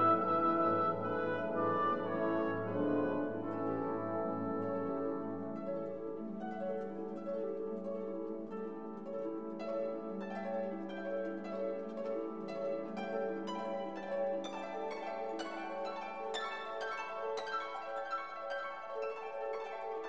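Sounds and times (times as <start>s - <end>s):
instrumental music: 0.0s - 20.0s.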